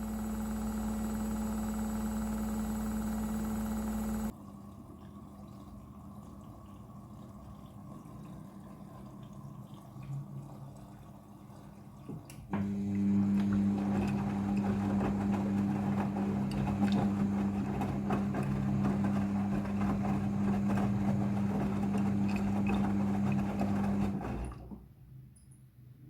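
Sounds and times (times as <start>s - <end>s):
washing machine electric hum: 0.0s - 25.2s.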